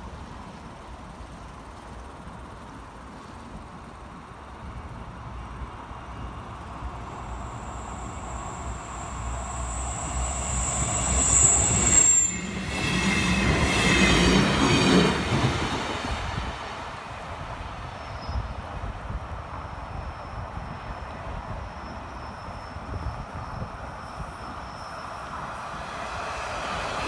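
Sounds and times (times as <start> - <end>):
train passing with rumble: 0.0 - 27.0
train wheels squealing: 3.2 - 15.7, 17.8 - 27.0.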